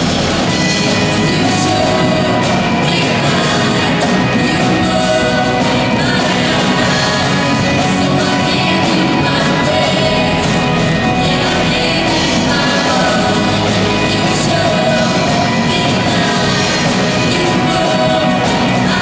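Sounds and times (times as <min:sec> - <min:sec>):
live rock band playing: 0:00.0 - 0:19.0
person singing: 0:00.0 - 0:19.0.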